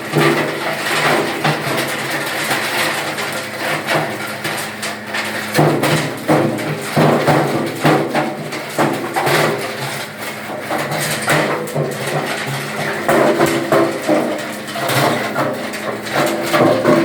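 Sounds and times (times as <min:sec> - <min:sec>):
wood crusher humming: 0:00.0 - 0:17.0.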